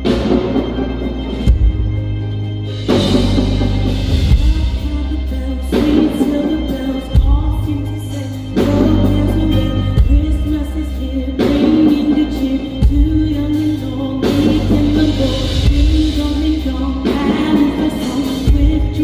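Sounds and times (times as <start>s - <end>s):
heavy bass and drums: 0.0s - 19.0s
person singing: 2.9s - 19.0s.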